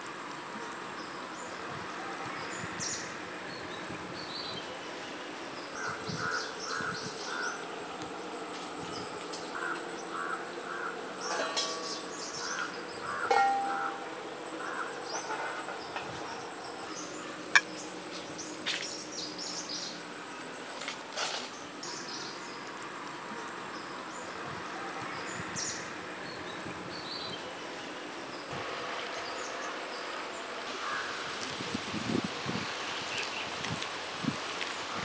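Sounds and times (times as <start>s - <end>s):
birds calling: 0.6s - 28.5s, 29.1s - 31.4s.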